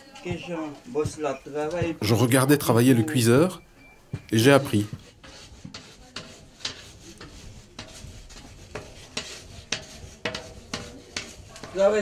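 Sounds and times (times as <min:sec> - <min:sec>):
hand scraping and tapping strokes: 0:00.0 - 0:12.0.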